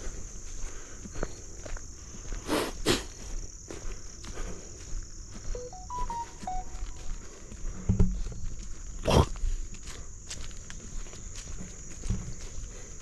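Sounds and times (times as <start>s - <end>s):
footsteps: 0.0s - 13.0s
insects trilling: 0.0s - 13.0s.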